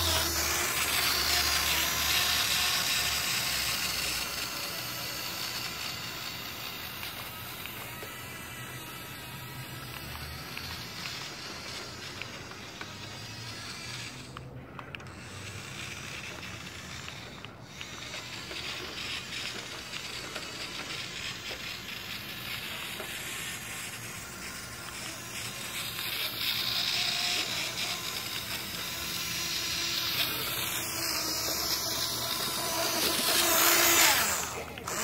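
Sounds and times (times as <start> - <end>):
toy truck driving on asphalt: 0.0 - 35.0.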